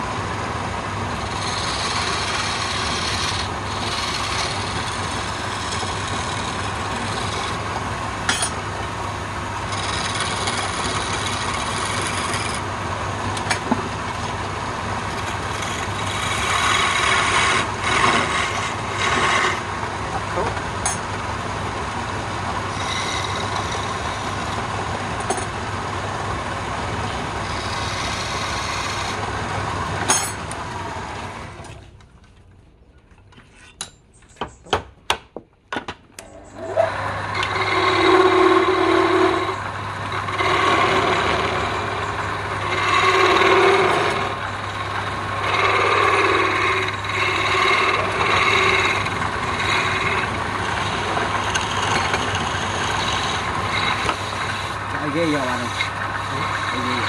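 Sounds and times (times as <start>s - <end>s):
wood lathe humming: 0.0s - 31.7s, 36.6s - 57.0s
turning tool scraping wood: 1.1s - 21.1s, 21.7s - 31.8s, 36.4s - 57.0s.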